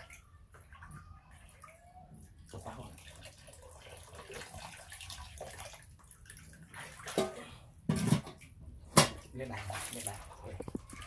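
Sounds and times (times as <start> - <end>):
water pouring into plastic basin: 0.0 - 11.0.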